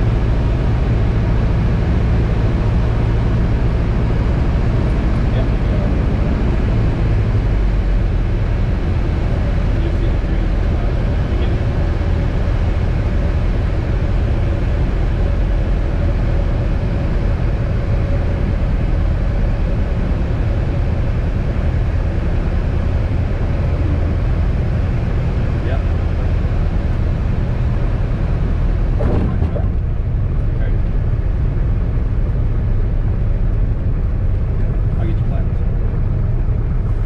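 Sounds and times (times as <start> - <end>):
airplane engine and propeller droning: 0.0 - 37.0.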